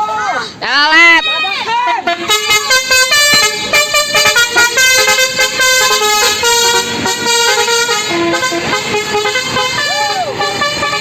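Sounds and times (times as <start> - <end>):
multi-tone bus air horn: 1.7 - 11.0.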